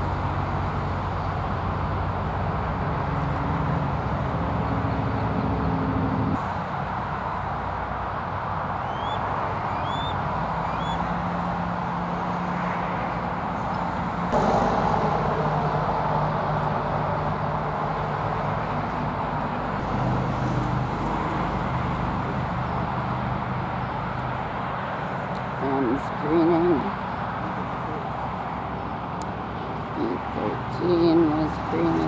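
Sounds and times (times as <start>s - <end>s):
passing vehicle engine hum: 0.0s - 32.0s
road traffic: 0.0s - 32.0s.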